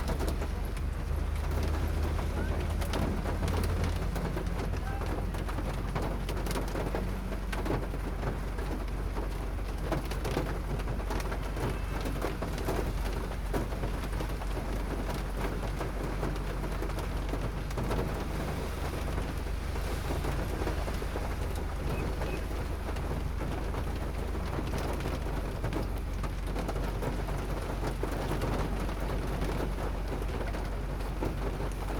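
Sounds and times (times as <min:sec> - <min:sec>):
hail and rain falling hard: 0:00.0 - 0:31.9.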